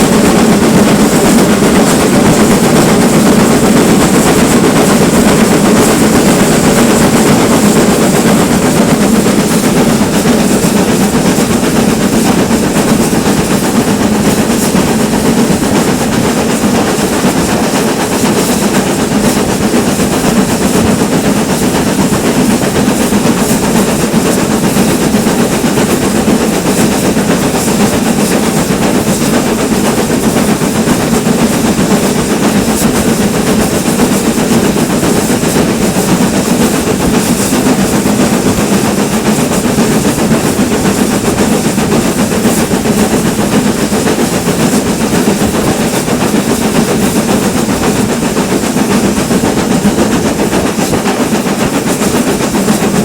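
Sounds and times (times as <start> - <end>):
steam train rumble: 0.0 - 53.0.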